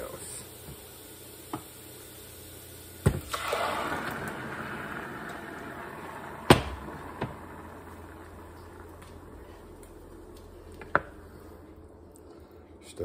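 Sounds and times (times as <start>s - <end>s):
sauce sizzling in a saucepan: 0.0s - 11.6s.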